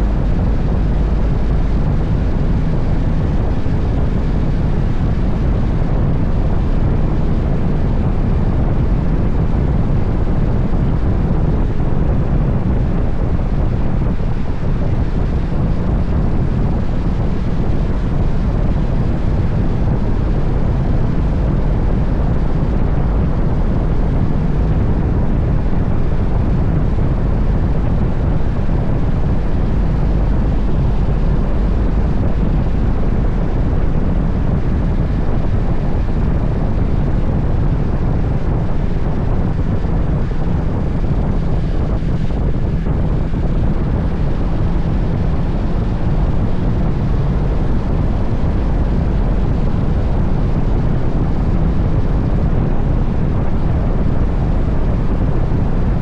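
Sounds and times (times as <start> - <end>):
low engine drone: 0.0 - 56.0
wind rush on microphone: 0.0 - 56.0.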